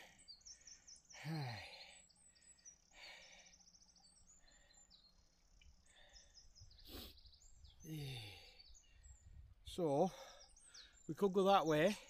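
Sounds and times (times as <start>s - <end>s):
songbird chirps and trills: 0.0s - 12.0s.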